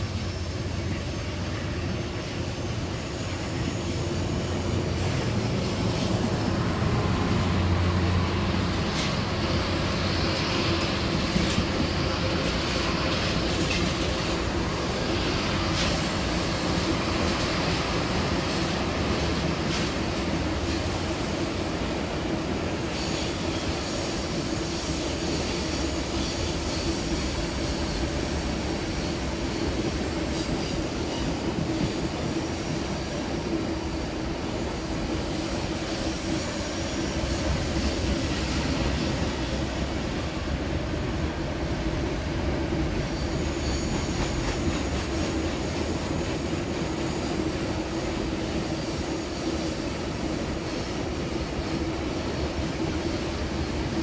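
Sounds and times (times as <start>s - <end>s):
rail grinding train running: 0.0s - 54.0s.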